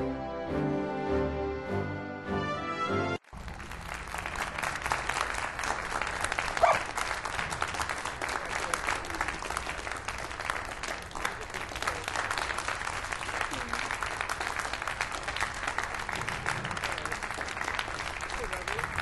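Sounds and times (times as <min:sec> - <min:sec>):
applause: 0:03.2 - 0:19.0.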